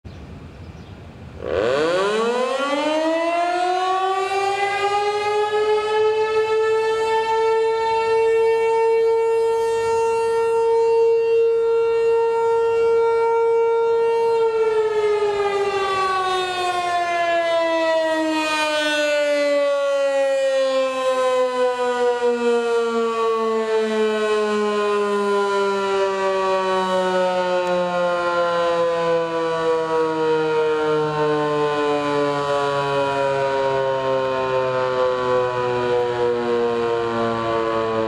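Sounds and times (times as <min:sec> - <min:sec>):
rotating siren wailing: 0:01.4 - 0:38.0.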